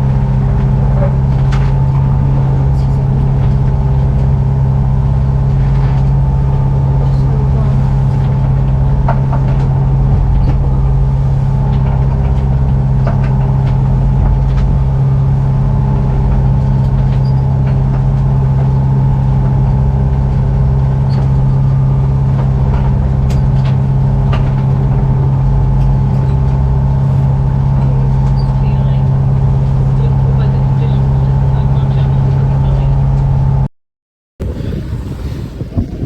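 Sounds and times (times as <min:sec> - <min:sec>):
boat engine humming: 0:00.0 - 0:33.7, 0:34.4 - 0:36.0.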